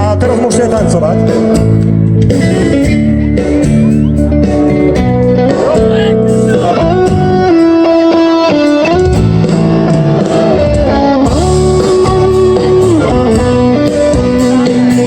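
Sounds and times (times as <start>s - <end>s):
bass guitar: 0.0s - 15.0s
steady drum beat: 0.0s - 15.0s
electric guitar sliding notes: 0.7s - 15.0s.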